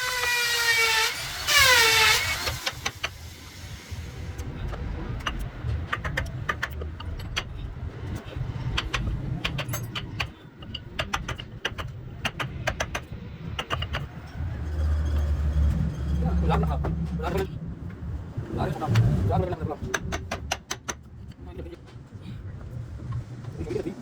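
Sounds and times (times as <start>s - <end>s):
steady low rumble: 2.9s - 24.0s.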